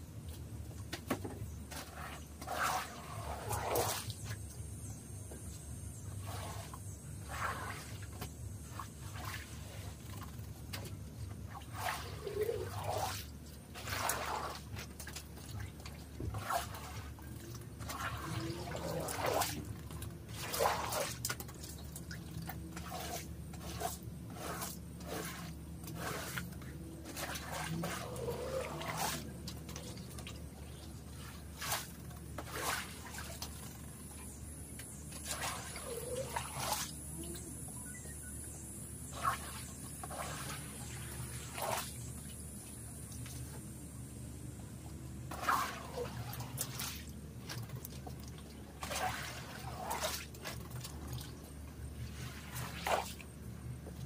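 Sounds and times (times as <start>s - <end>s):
faint low hum: 0.0s - 54.0s
water splashing and squishing: 0.2s - 4.7s, 6.1s - 37.5s, 39.1s - 43.6s, 45.2s - 54.0s.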